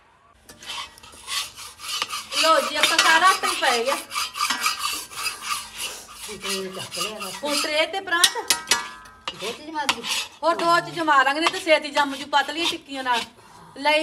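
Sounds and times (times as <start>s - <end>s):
metal spatulas scraping a pan: 0.4s - 14.0s.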